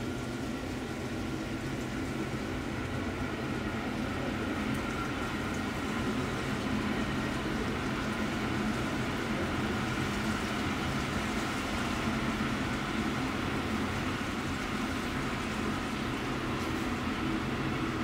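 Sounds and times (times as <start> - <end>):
rushing water: 0.0 - 18.0
ship engine low hum: 0.0 - 18.0.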